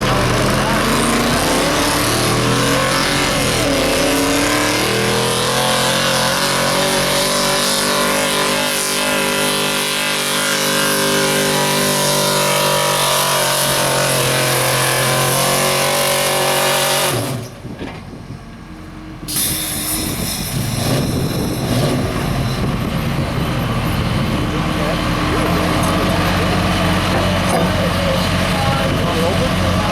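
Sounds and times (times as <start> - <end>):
truck engine at full throttle: 0.0 - 29.9.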